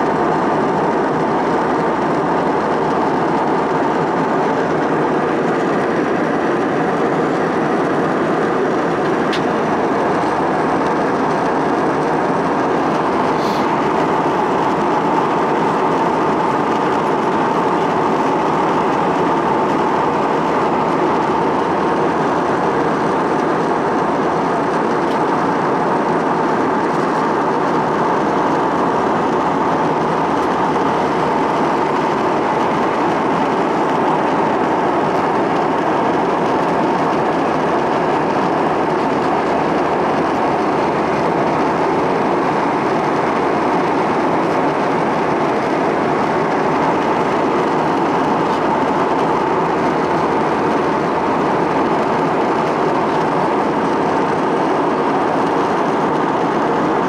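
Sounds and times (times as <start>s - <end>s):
jet cabin engine and airflow rush: 0.0s - 57.0s.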